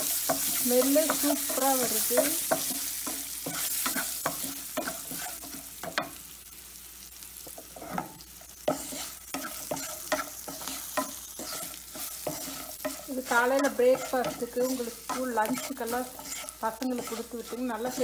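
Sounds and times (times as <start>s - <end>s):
wooden spatula scraping pan: 0.0s - 6.0s, 7.6s - 18.0s
spices sizzling in hot oil: 0.0s - 18.0s.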